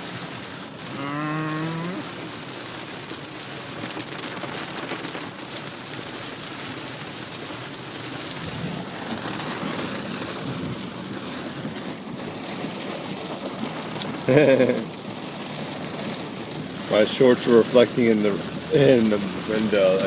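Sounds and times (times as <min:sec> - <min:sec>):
heavy rain on a car roof: 0:00.0 - 0:20.0.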